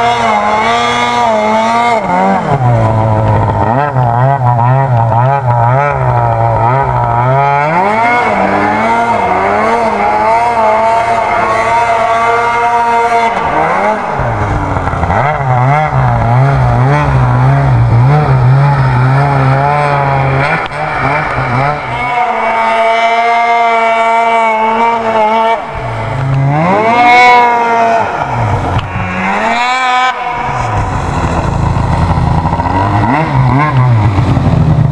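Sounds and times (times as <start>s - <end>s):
snowmobile engine revving: 0.0s - 34.9s.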